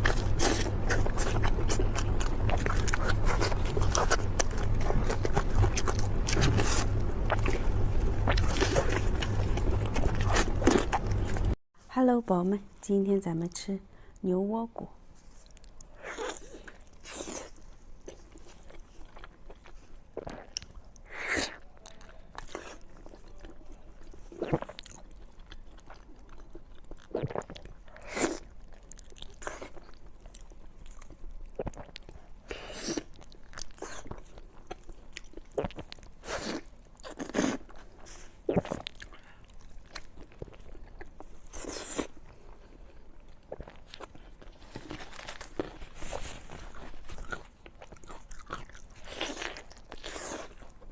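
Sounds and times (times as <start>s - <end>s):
person biting and chewing: 0.0s - 11.6s, 15.4s - 23.5s, 24.4s - 42.2s, 43.5s - 50.8s.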